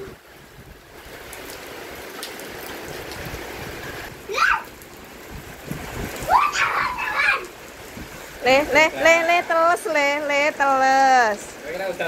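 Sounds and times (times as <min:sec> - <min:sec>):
heavy rain on roofs: 0:00.0 - 0:12.0.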